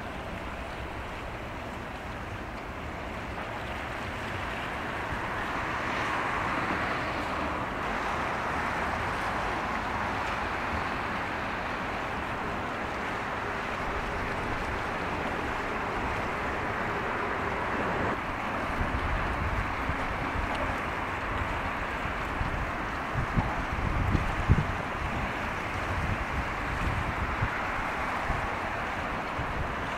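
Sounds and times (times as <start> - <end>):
water washing: 0.0 - 29.9
wind: 0.0 - 29.9.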